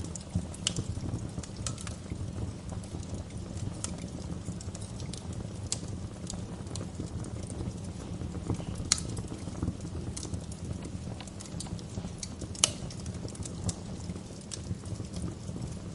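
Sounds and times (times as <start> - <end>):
sharp pops of fire: 0.0 - 15.9
wood fire crackling: 0.0 - 15.9.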